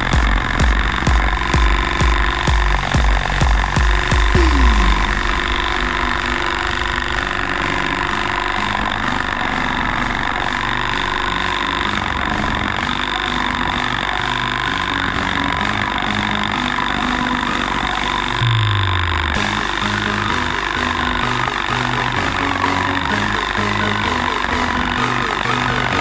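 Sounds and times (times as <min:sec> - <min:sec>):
harvester motor drone: 0:00.0 - 0:26.0.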